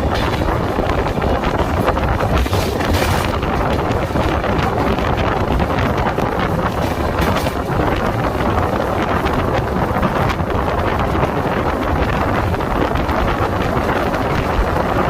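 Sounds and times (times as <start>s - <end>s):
train rumbling at speed: 0.0s - 15.0s
wind buffeting microphone: 0.0s - 15.0s.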